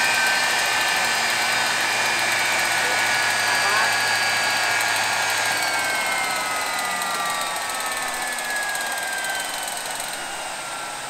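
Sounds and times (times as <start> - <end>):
gas turbine spinning down: 0.0 - 11.0.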